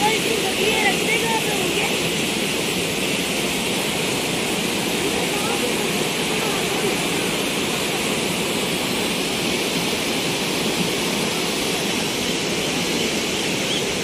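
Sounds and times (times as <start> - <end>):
river rushing over rapids: 0.0 - 14.0.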